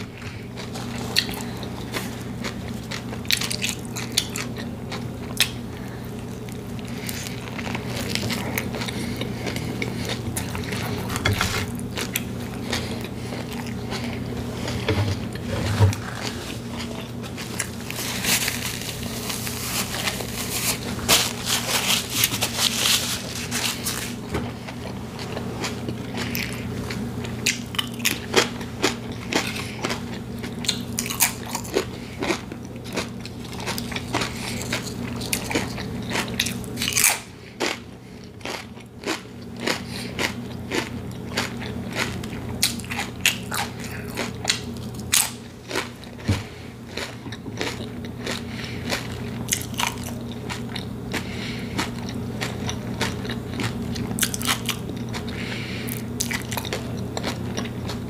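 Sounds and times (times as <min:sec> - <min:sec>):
potato chips crunching: 0:00.0 - 0:58.0
steady low hum: 0:00.0 - 0:58.0.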